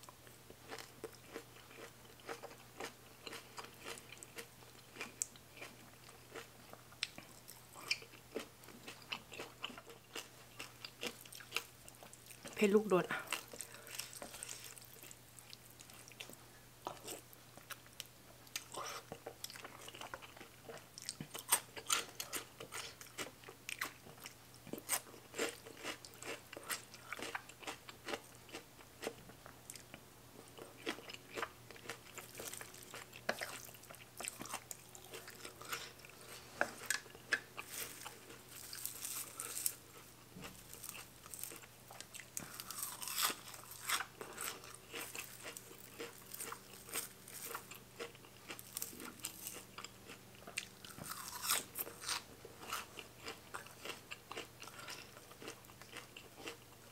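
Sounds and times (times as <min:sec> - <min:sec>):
crunching and wet chewing: 0:00.0 - 0:12.6, 0:13.2 - 0:56.9.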